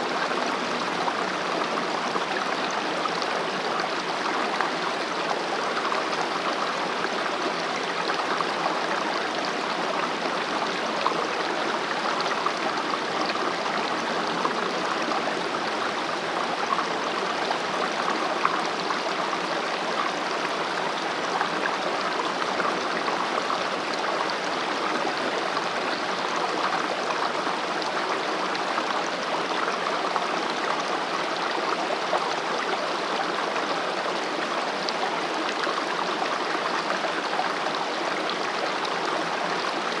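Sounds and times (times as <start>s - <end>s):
stream flowing over rocks: 0.0s - 40.0s.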